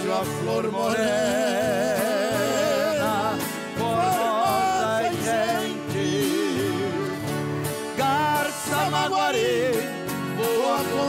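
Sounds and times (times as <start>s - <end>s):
country song with vibrato vocals: 0.0s - 11.0s.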